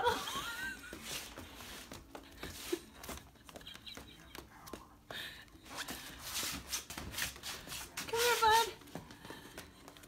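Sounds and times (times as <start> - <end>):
dog paws tapping on hardwood floor: 0.0 - 10.0.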